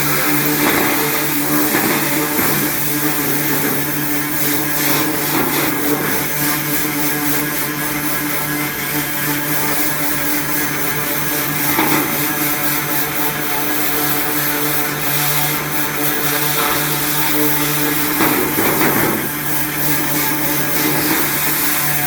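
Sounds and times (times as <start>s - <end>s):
pressure washer motor hum: 0.0s - 22.0s.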